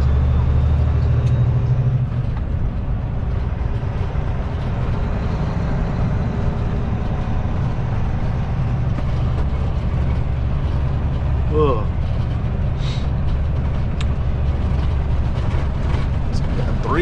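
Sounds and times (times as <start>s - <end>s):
road noise: 0.0s - 17.0s
truck diesel engine pulling: 0.0s - 17.0s.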